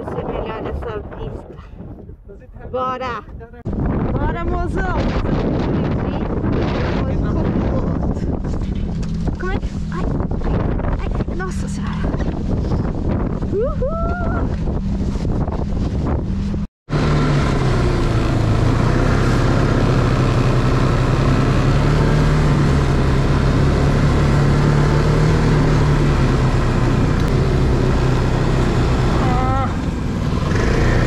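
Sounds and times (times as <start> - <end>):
snowmobile engine running: 4.5 - 31.0.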